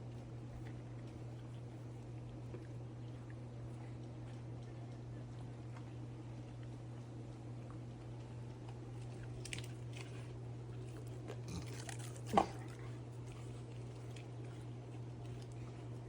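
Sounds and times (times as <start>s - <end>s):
dogs chewing and crunching food: 0.0s - 16.0s
steady low hum: 0.0s - 16.0s.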